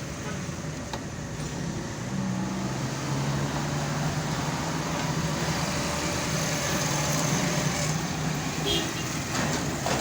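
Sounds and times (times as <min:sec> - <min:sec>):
road traffic noise: 0:00.0 - 0:10.0
vehicle engine humming: 0:00.0 - 0:10.0.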